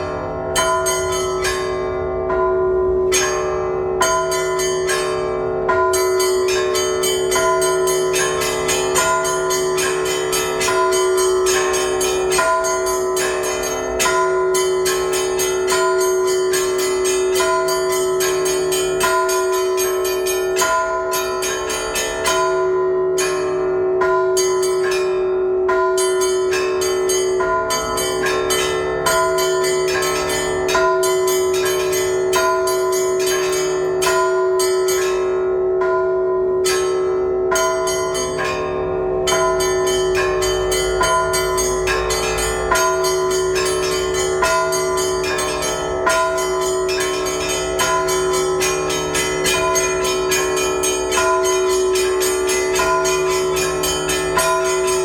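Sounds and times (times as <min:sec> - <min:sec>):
large bell hum: 0:00.0 - 0:55.0
small bells struck quickly: 0:00.0 - 0:55.0.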